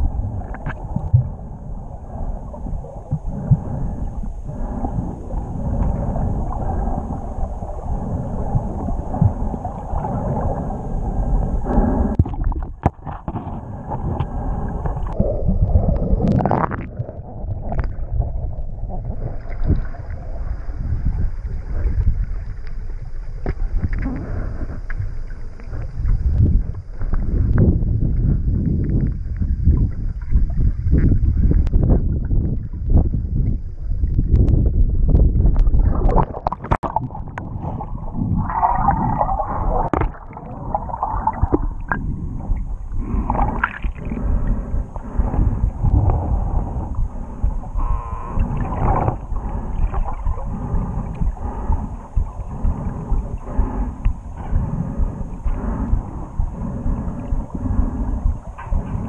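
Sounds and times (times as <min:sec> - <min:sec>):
muffled underwater water noise: 0:00.0 - 0:59.0.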